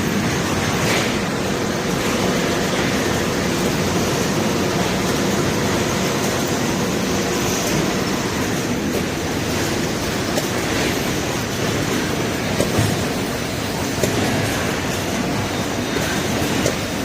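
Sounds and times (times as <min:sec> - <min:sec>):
shrink-wrapping machine rushing: 0:00.0 - 0:17.0.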